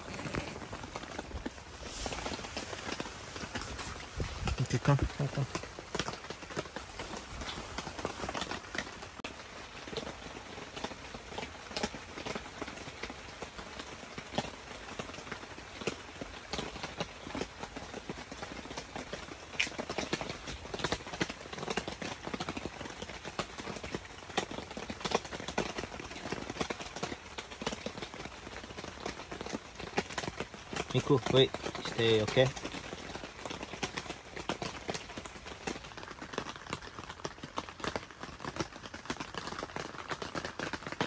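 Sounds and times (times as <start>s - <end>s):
rain on a tent: 0.0s - 41.0s.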